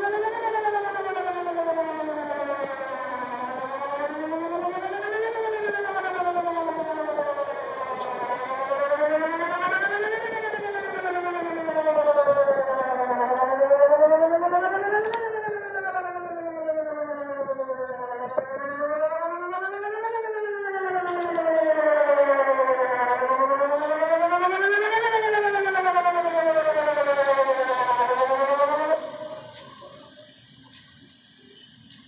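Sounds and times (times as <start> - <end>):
warning siren wailing: 0.0 - 32.0.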